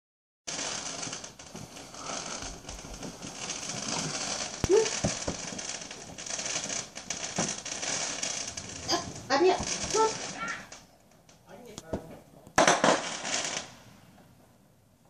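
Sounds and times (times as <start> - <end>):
sharp pops: 0.5 - 10.9, 11.7 - 13.8
distant fireworks crackling: 0.5 - 14.6.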